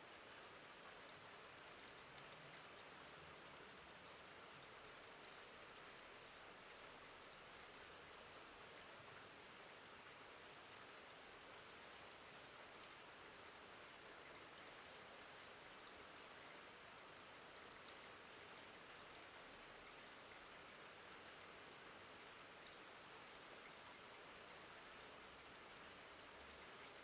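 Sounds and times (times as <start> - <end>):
faint steady rain: 0.0 - 27.0.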